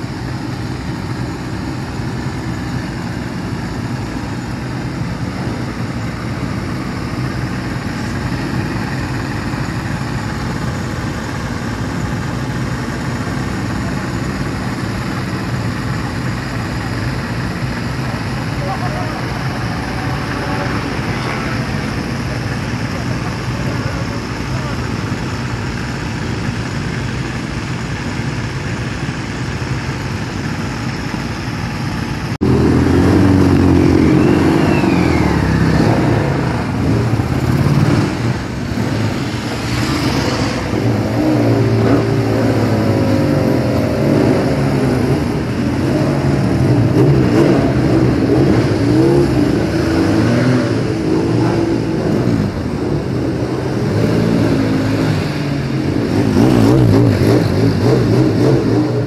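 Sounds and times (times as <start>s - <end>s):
engines revving: 0.0s - 59.0s
motorcycle engines idling: 0.0s - 59.0s.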